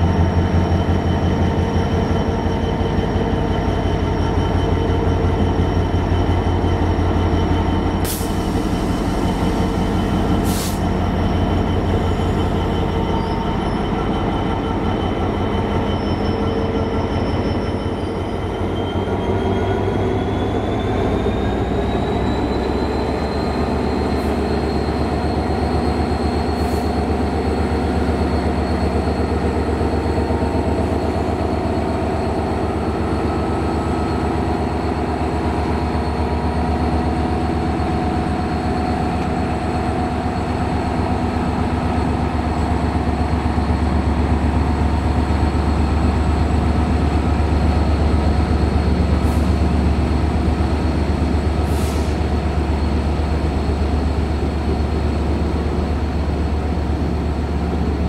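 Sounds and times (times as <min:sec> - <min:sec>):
diesel locomotive engine throbbing: 0:00.0 - 0:58.0.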